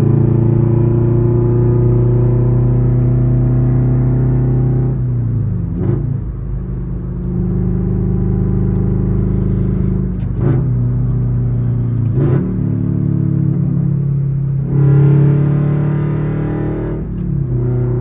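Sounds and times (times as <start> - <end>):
car engine and exhaust driving: 0.0 - 18.0.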